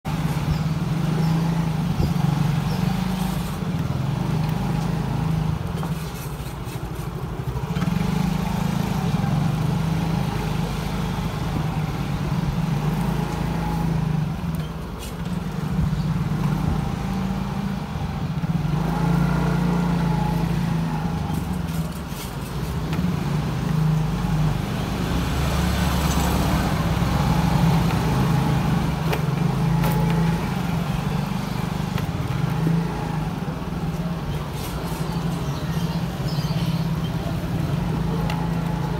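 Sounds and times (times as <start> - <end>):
road and traffic noise: 0.0 - 38.9.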